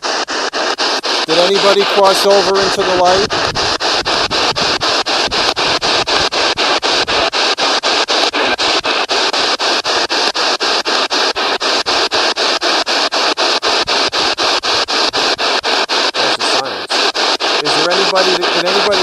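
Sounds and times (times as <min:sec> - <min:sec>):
radio static bursts: 0:00.0 - 0:19.0.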